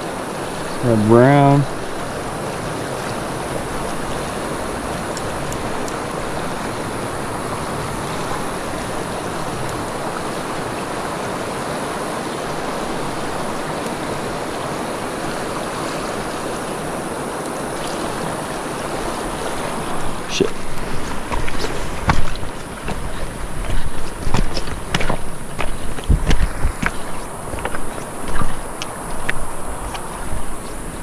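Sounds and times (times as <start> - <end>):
river current rushing: 0.0 - 31.0.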